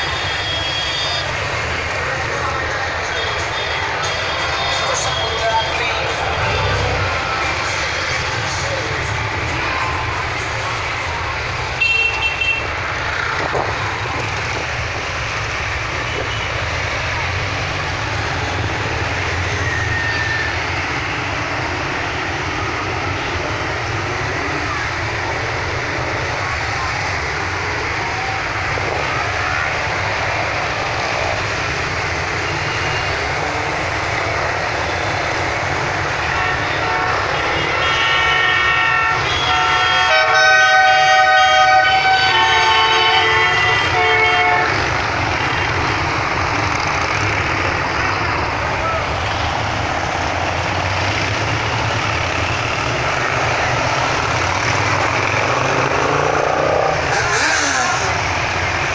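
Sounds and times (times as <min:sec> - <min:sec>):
motorcycle engines passing: 0:00.0 - 0:58.9.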